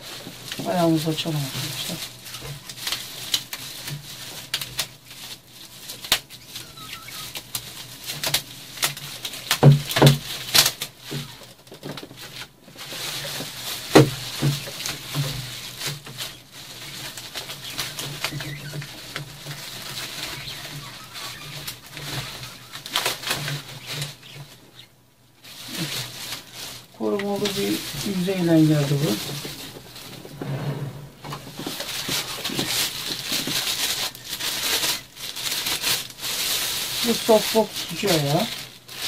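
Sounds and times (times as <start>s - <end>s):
bubble wrap crinkling: 0.0s - 39.0s.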